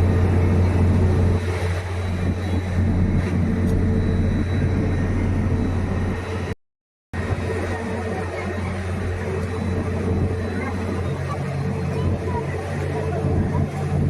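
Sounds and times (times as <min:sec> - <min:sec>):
airliner engines droning: 0:00.0 - 0:06.6, 0:07.2 - 0:14.0.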